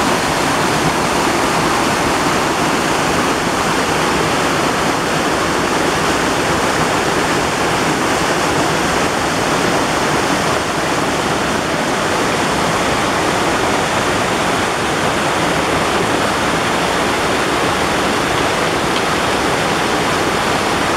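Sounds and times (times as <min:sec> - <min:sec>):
stream rushing over boulders: 0:00.0 - 0:20.9.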